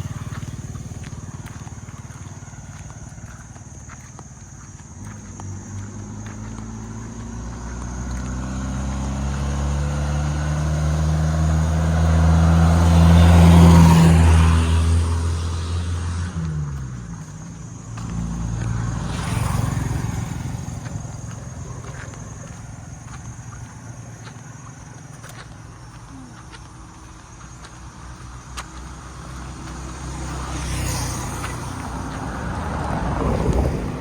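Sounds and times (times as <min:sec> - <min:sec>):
vehicle driving past: 0:00.0 - 0:34.0.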